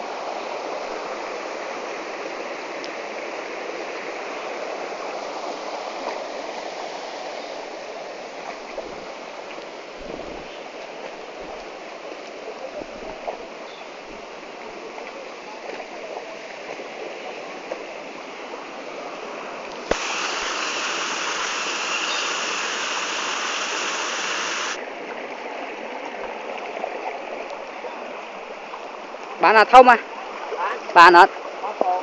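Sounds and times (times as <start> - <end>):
stream water running: 0.0 - 32.0.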